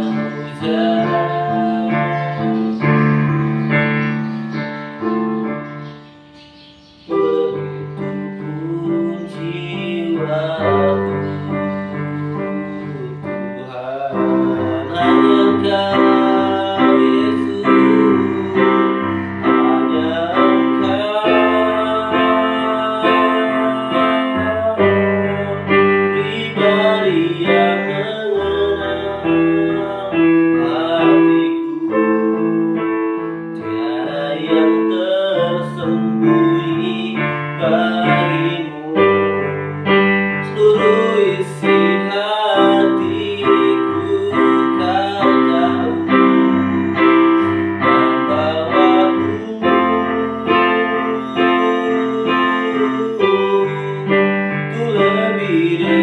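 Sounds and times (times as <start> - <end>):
man singing slow song: 0.0 - 4.2, 7.1 - 56.0
digital piano chords: 0.0 - 56.0.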